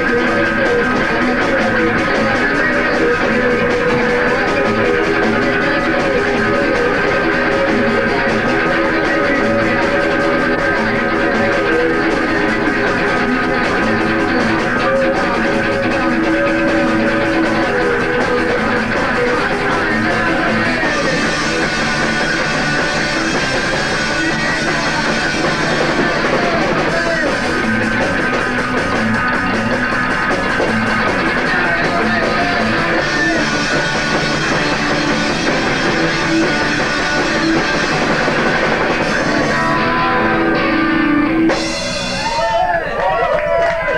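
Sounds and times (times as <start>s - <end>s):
punk rock band playing: 0.0s - 43.9s.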